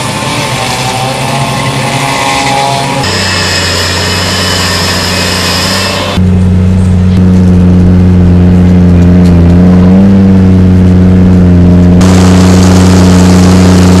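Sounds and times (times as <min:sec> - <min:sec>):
snowcat engine running: 0:00.0 - 0:14.0.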